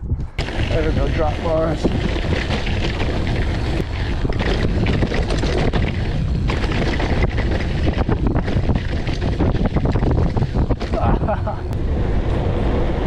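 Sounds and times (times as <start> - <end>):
bike rattling and clicking: 0.0 - 11.8
bike tyres rumbling on dirt: 0.0 - 13.0
wind rushing over microphone: 0.0 - 13.0.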